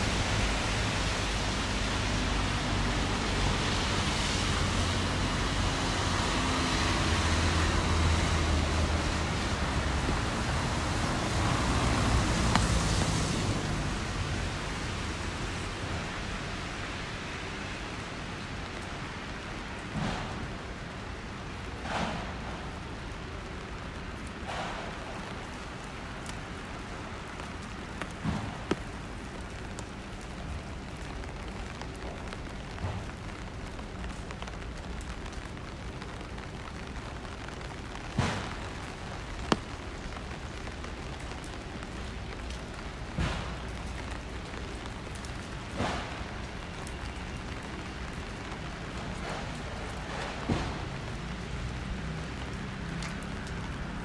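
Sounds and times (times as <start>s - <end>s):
raindrops tapping close by: 0.0s - 54.0s
steady rain on street: 0.0s - 54.0s.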